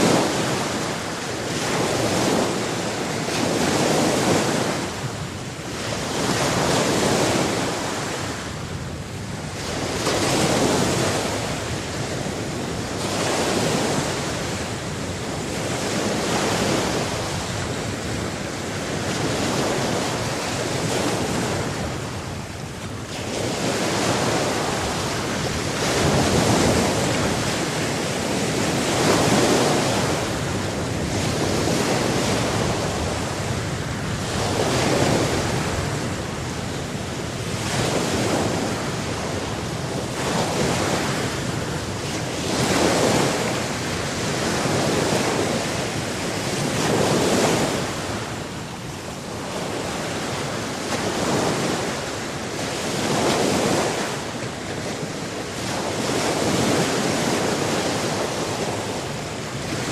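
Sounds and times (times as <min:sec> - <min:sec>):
ocean waves breaking on shore: 0:00.0 - 0:59.9
wind on microphone: 0:00.0 - 0:59.9.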